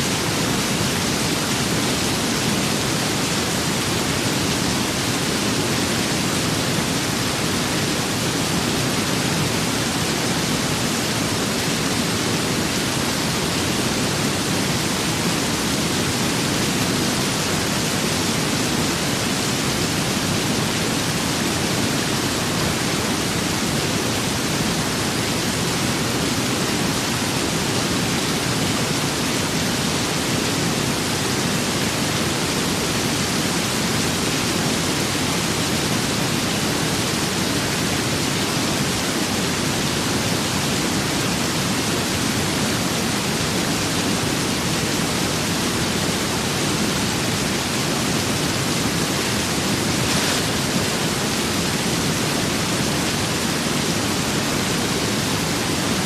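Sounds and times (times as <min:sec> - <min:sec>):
steady rain: 0:00.0 - 0:56.0
wind: 0:00.0 - 0:56.0.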